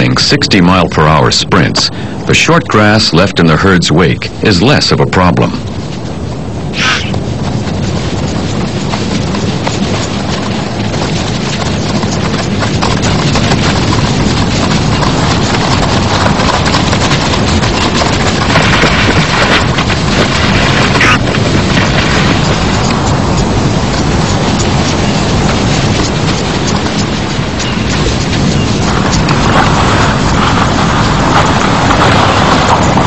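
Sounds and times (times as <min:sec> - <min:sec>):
dense rushing noise: 0:00.0 - 0:33.0
rapid hoofbeats: 0:00.0 - 0:33.0.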